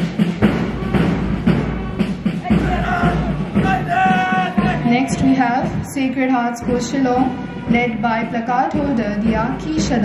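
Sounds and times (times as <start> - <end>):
marching drum beat: 0.0 - 10.0.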